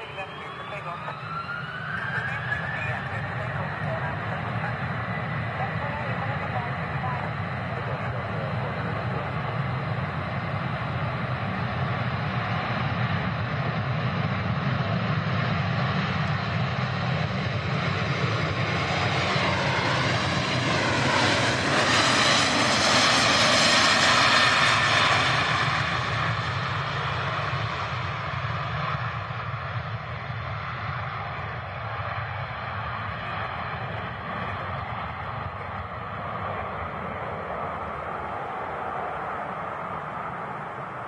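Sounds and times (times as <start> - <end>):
jet engines at takeoff power: 0.0 - 41.0
phasing jet engine whine: 0.0 - 41.0.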